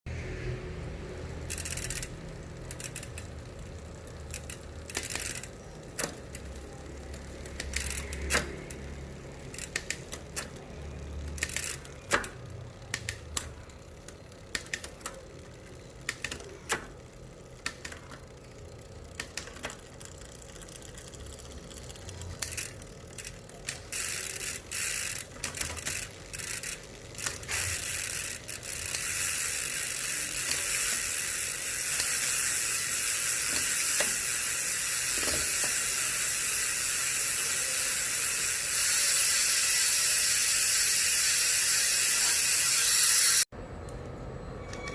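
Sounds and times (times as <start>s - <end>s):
bicycle freehub clicking: 0.2s - 43.5s.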